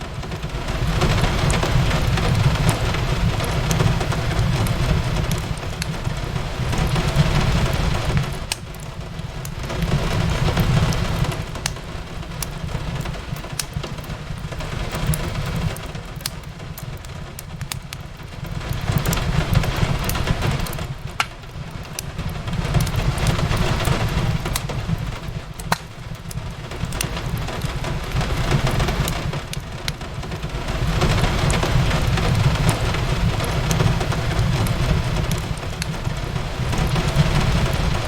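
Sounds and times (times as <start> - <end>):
rain on a window: 0.0 - 38.0
wood fire crackling: 0.0 - 38.0.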